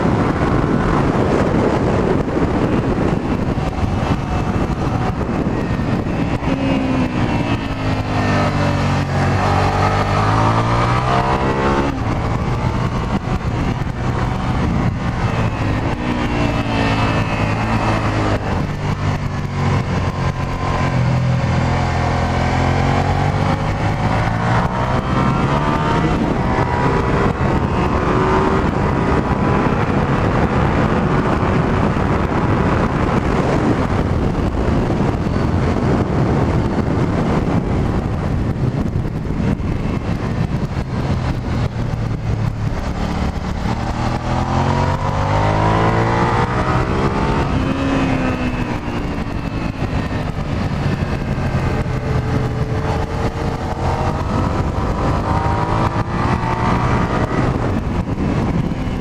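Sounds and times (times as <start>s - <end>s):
heavy wind rush: 0.0s - 59.0s
motorcycle engine revving: 0.0s - 59.0s.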